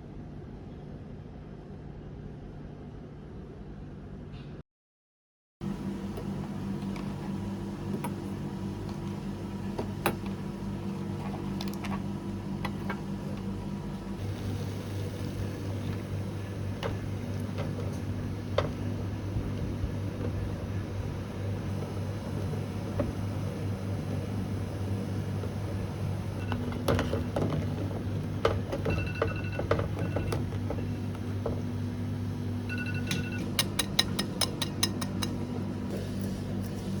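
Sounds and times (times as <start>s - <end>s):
kitchen machinery hum: 5.6s - 37.0s.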